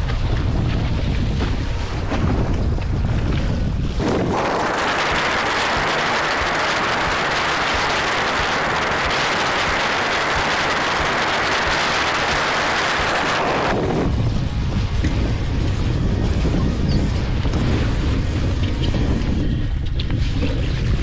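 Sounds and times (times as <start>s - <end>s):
water and wind rushing: 0.0s - 21.0s.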